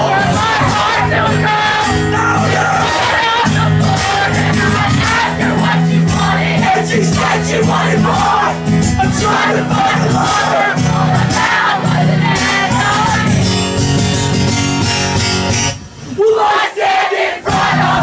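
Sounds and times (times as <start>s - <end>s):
crowd singing along: 0.0s - 14.6s, 15.7s - 18.0s
acoustic guitar playing: 0.0s - 16.2s, 17.4s - 18.0s.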